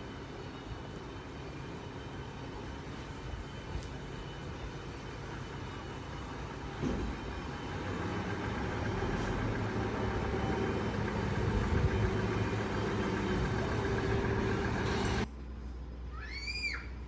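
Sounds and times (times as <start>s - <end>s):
train rumbling: 0.0s - 15.4s.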